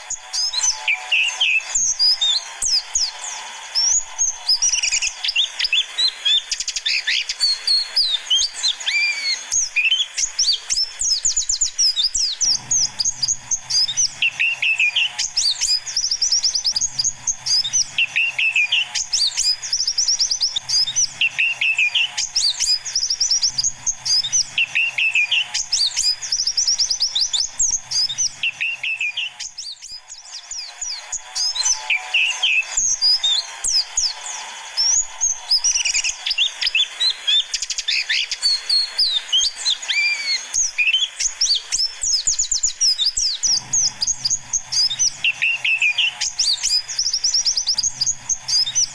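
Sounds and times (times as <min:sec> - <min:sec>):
high twittering bird chirps: 0:00.0 - 0:48.9.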